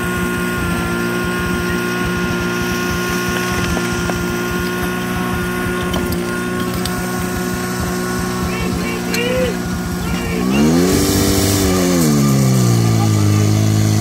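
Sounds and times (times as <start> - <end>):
pump engine running: 0.0 - 14.0.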